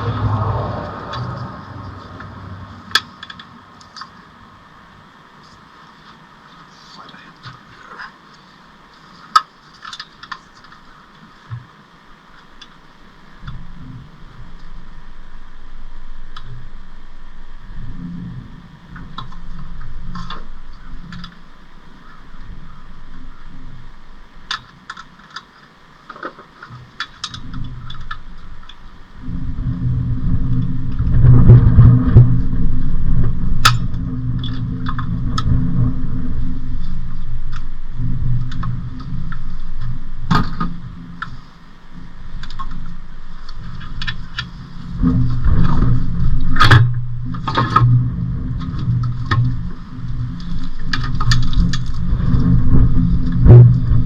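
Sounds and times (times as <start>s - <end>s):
low mechanical drone: 0.0s - 54.0s.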